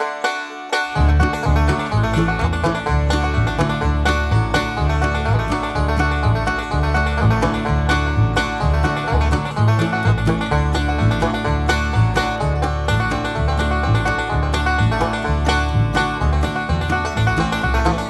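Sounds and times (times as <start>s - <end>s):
upbeat country tune with banjo: 0.0s - 18.0s.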